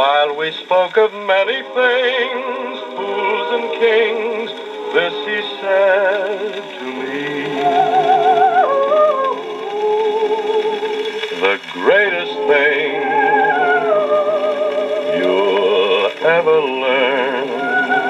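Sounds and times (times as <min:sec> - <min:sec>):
backing vocal group: 0:00.6 - 0:18.0.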